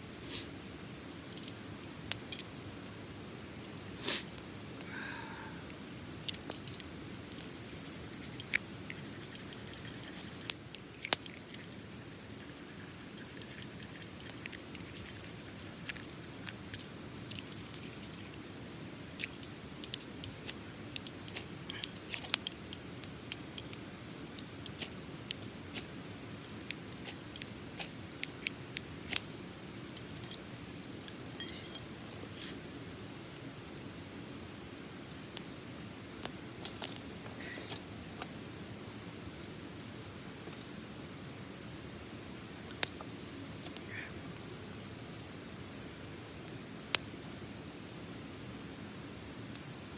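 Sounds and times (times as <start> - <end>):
faint hiss: 0.0 - 49.9.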